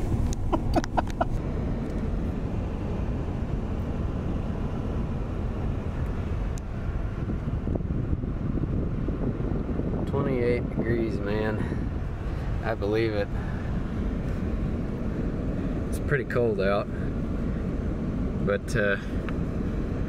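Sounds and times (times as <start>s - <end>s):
truck engine and tyre rumble: 0.0s - 20.0s.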